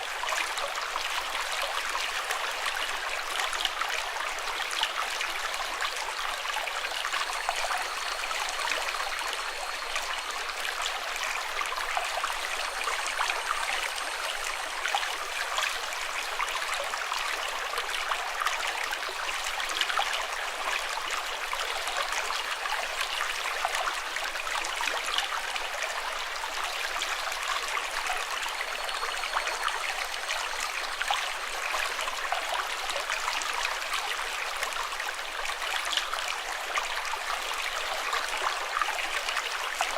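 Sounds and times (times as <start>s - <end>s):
running water splashing and trickling: 0.0s - 39.9s.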